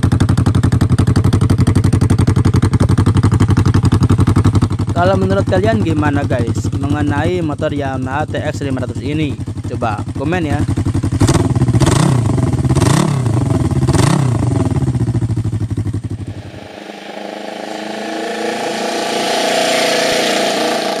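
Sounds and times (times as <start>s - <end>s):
motorcycle engine revving: 0.0s - 7.4s, 9.1s - 21.0s
motorcycle accelerating: 0.0s - 7.5s, 9.1s - 21.0s.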